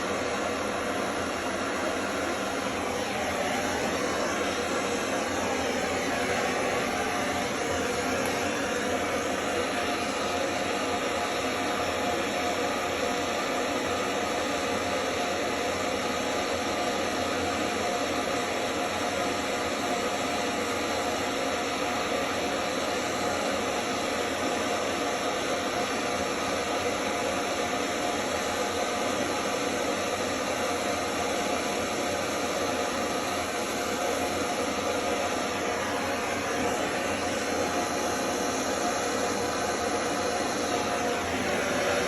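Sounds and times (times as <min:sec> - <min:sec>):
gas torch flame hissing: 0:00.0 - 0:42.0.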